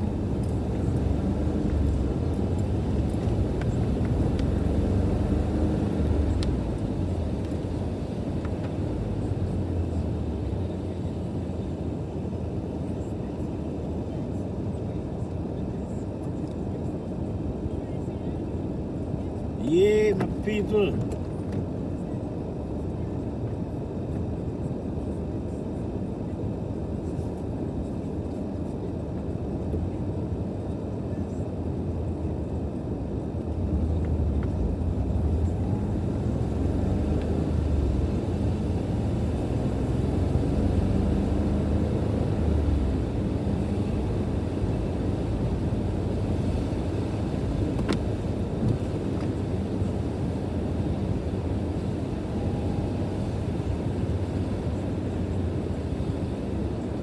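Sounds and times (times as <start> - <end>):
car driving rumble from inside: 0.0 - 57.0.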